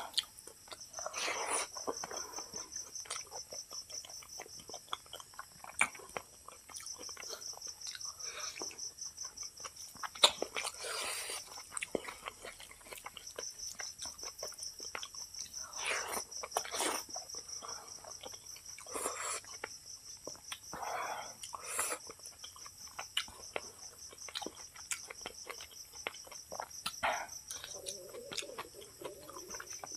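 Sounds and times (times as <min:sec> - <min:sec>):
chewing: 0:00.0 - 0:29.9.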